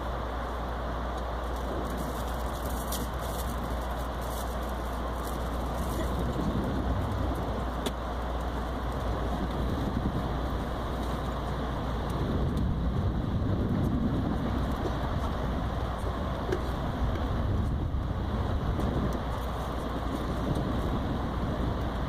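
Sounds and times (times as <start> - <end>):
train wheels rumbling on rail: 1.1 - 22.0.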